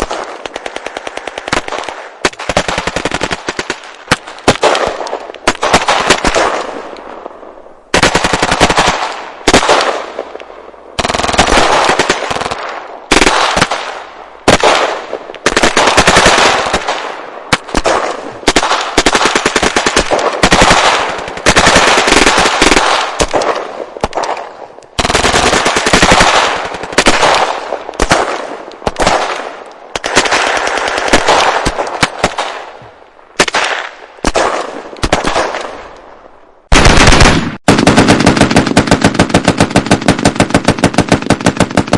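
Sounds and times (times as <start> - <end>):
machine gun firing bursts: 0.0 - 6.7, 7.9 - 10.1, 11.0 - 32.6, 33.4 - 35.6, 36.7 - 41.9.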